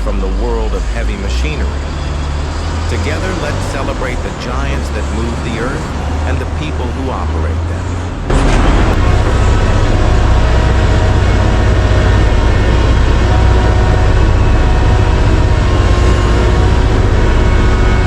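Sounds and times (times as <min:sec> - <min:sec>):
diesel engine drone: 0:00.0 - 0:18.0
faint whines: 0:00.0 - 0:18.0.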